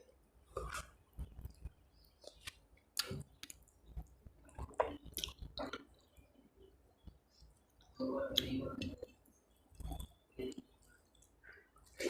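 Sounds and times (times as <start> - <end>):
person chewing food: 0.0 - 6.4, 7.0 - 12.0.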